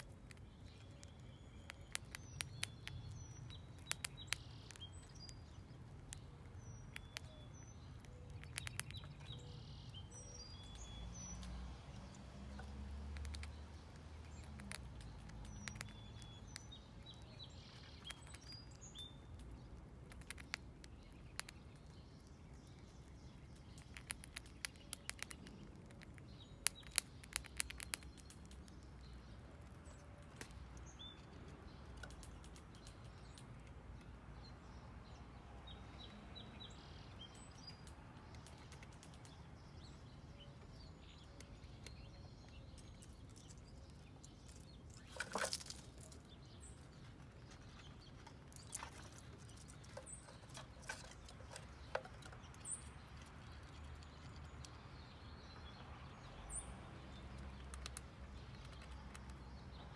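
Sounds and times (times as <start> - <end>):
squirrel crunching corn kernels: 0.0 - 34.8, 35.4 - 59.9
small birds chirping: 0.0 - 59.9.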